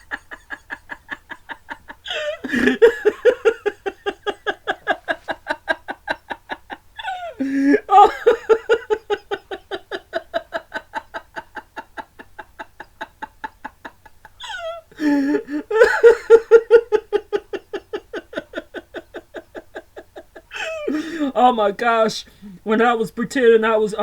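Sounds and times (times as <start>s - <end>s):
person laughing: 0.0s - 21.6s.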